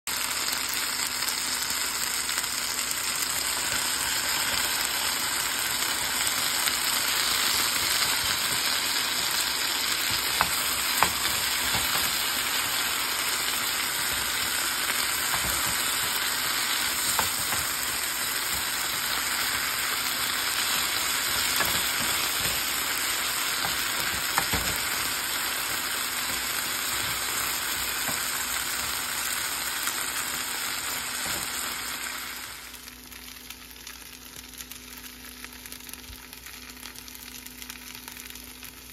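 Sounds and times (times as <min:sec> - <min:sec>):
food sizzling in a frying pan: 0:00.1 - 0:38.9.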